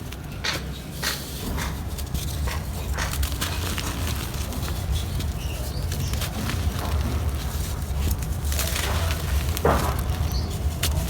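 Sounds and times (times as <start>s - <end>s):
dry dirt crunching: 1.1s - 11.0s.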